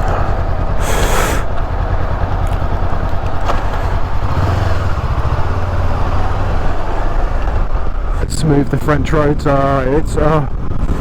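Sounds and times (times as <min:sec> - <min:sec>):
motorcycle engine running: 0:00.0 - 0:11.0
road noise: 0:00.0 - 0:11.0
wind noise: 0:00.0 - 0:11.0.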